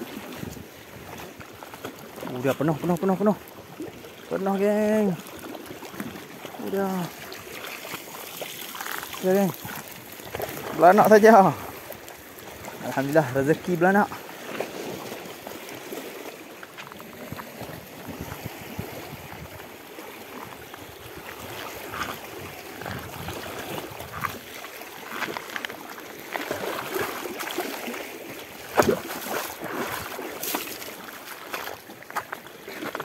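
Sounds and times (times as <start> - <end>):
small waves lapping on rocks: 0.0 - 33.0.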